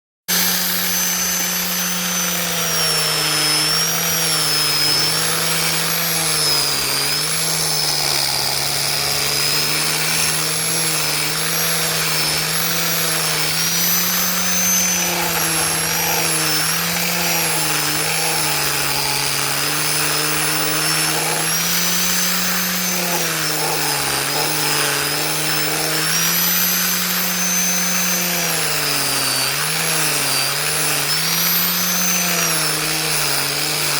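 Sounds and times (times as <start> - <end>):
electric power sander whining: 0.3 - 33.9.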